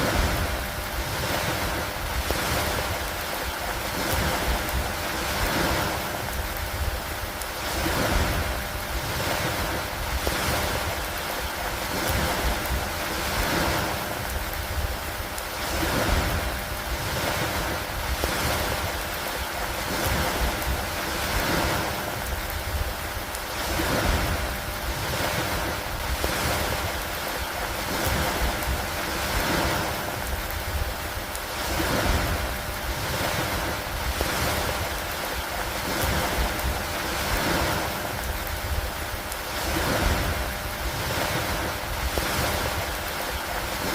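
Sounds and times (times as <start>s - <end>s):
low wind rumble: 0.0s - 43.9s
rain hissing: 0.0s - 43.9s.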